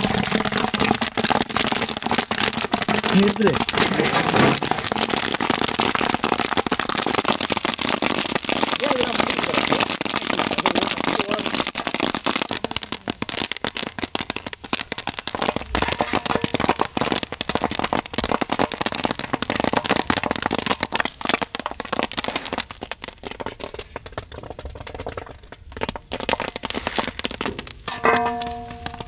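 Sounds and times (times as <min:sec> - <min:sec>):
popcorn crackling and rustling: 0:00.0 - 0:29.0.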